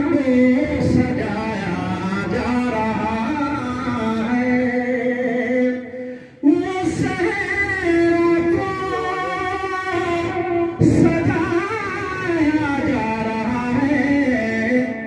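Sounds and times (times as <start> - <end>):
man chanting through loudspeakers: 0.0 - 15.0.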